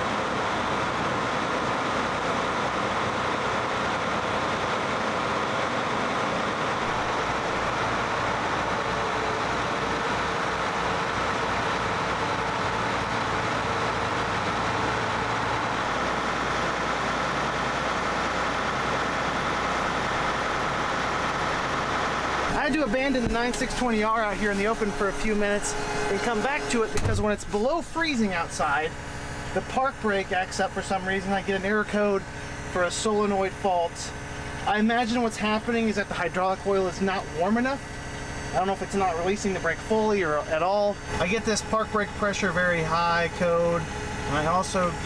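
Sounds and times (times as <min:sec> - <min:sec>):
tractor diesel engine idling: 0:00.0 - 0:45.0.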